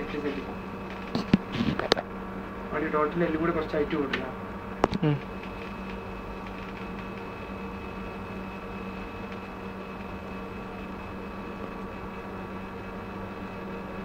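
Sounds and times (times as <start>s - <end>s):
office equipment humming: 0.0s - 14.0s.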